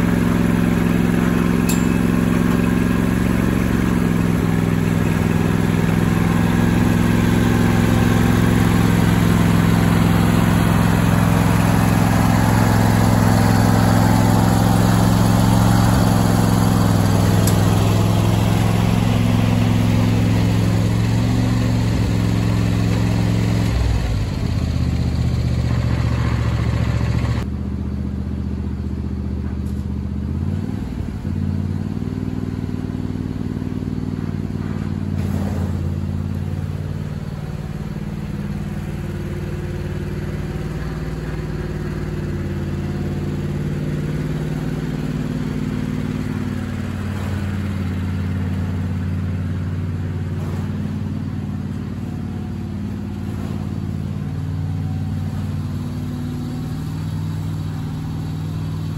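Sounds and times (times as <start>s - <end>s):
lawn tractor engine running: 0.0s - 58.9s.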